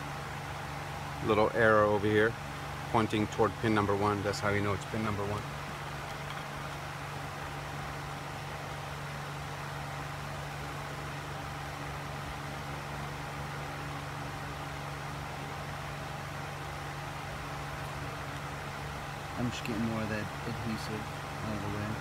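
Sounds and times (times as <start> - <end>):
even hiss: 0.0 - 22.0
mechanical hum: 0.0 - 22.0.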